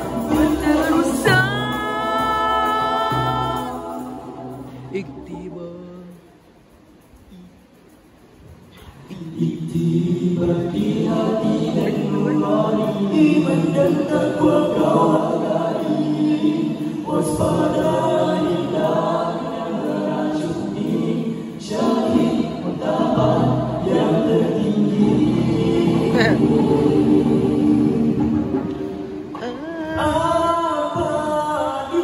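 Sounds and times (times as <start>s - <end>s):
boys singing in harmony: 0.0s - 7.1s, 8.9s - 32.0s.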